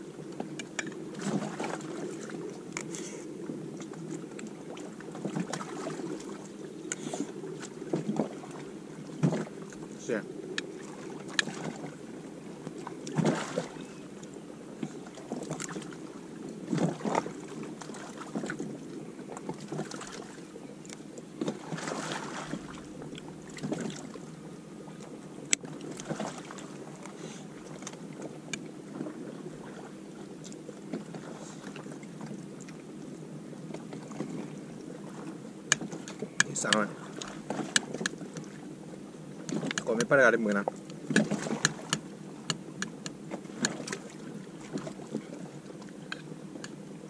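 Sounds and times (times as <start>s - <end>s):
paddle splashes: 0.0s - 32.8s, 33.6s - 47.0s
water washing against hull: 0.0s - 47.0s.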